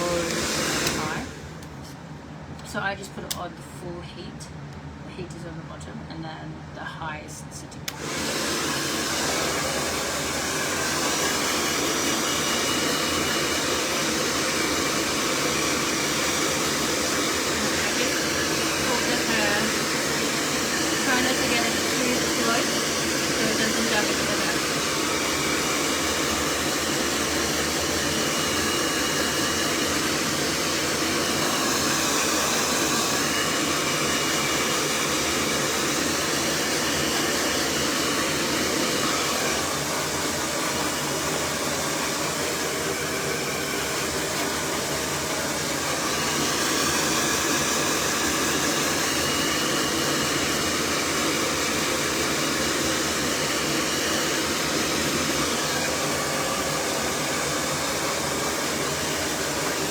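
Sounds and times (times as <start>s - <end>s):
hair dryer blowing air: 0.0s - 2.1s, 7.1s - 59.9s.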